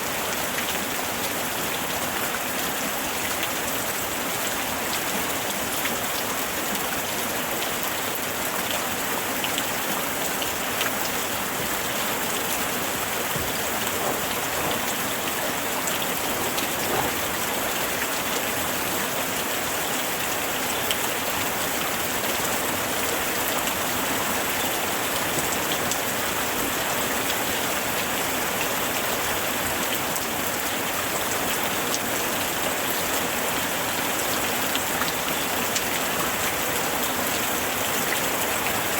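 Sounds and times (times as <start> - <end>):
heavy rain falling: 0.0 - 38.9
raindrops ticking on a surface: 0.1 - 38.9.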